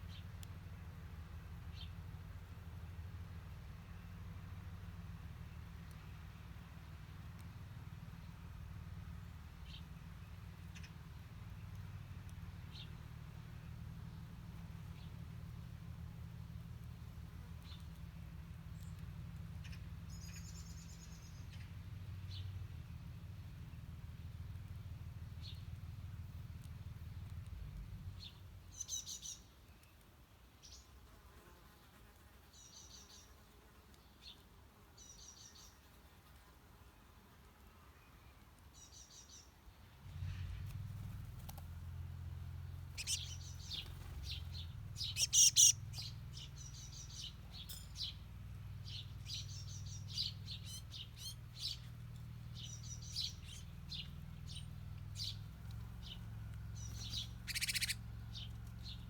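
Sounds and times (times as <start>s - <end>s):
small birds chirping: 0.0s - 31.0s, 32.5s - 36.0s, 37.9s - 59.0s.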